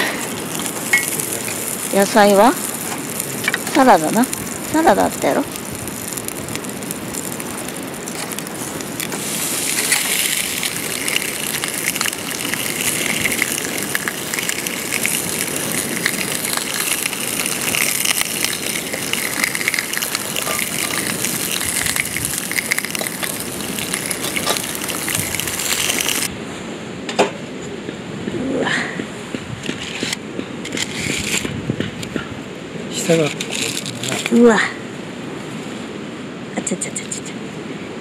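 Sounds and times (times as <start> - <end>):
wood fire crackling and hissing: 0.0 - 26.6, 28.4 - 38.0.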